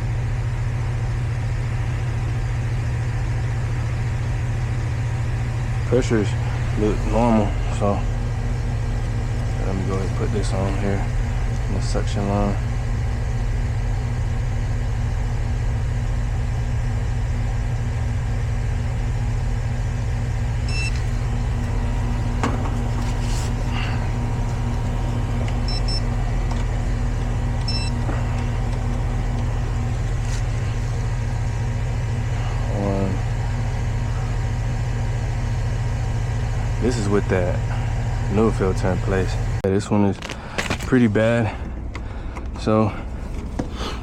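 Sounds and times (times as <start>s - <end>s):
heat pump humming: 0.0s - 44.0s.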